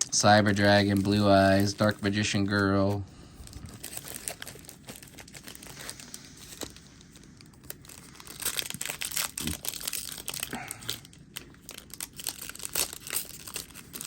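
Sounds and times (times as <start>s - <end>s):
foil wrapper tearing and crinkling: 0.2s - 14.0s.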